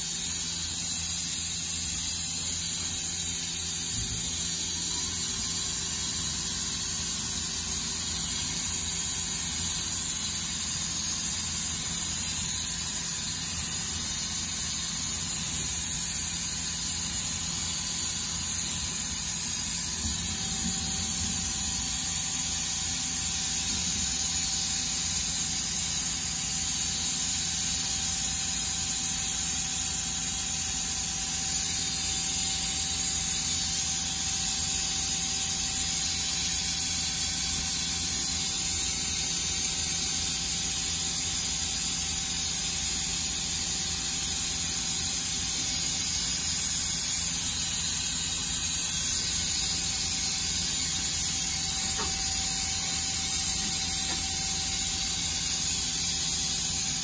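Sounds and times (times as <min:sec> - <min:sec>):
machine hiss and hum: 0:00.0 - 0:57.0.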